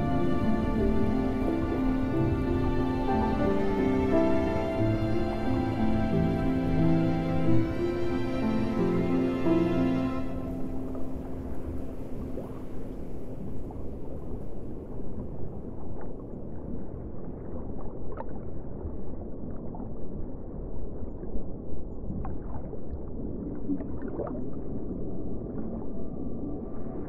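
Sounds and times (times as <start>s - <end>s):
deep underwater rumble: 0.0s - 8.9s, 10.4s - 27.0s.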